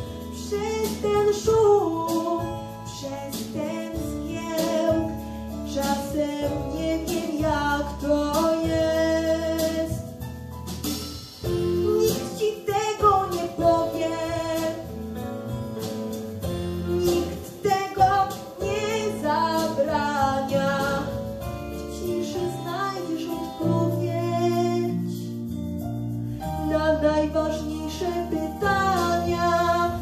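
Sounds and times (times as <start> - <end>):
girl singing pop ballad: 0.0 - 10.3, 11.6 - 15.2, 16.6 - 25.6, 26.3 - 30.0
instrumental accompaniment: 0.0 - 30.0.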